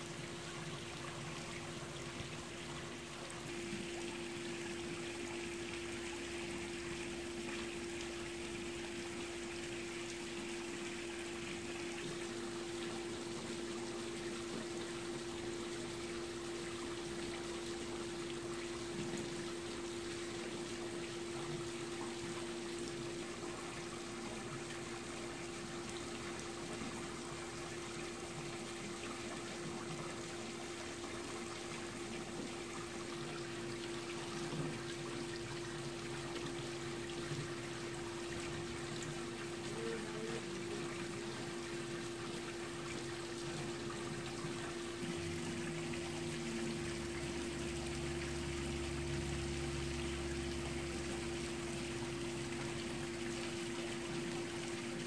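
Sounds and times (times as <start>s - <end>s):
trickle of running water: 0.0s - 55.0s.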